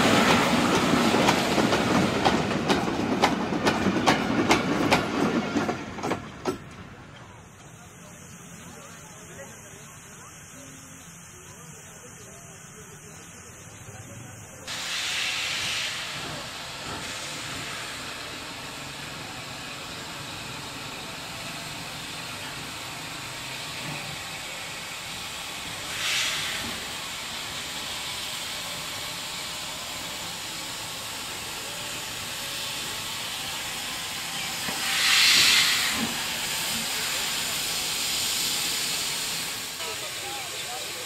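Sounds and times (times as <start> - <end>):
steam locomotive hissing steam: 0.0 - 41.0.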